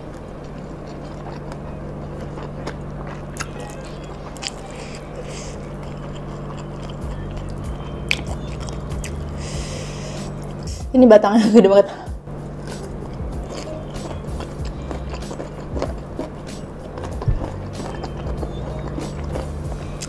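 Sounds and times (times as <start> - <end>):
close chewing of food: 0.0 - 10.7, 12.6 - 20.0
steady low hum: 0.0 - 20.0.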